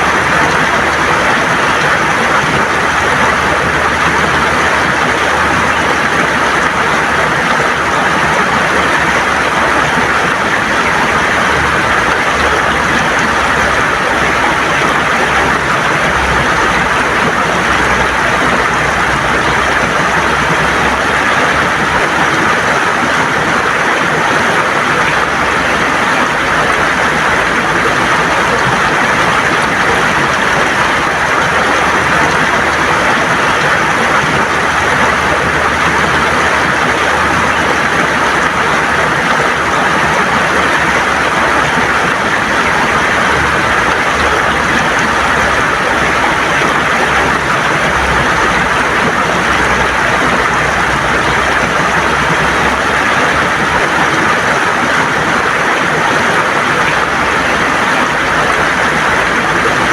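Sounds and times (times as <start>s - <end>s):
river water rushing over stones: 0.0s - 59.9s.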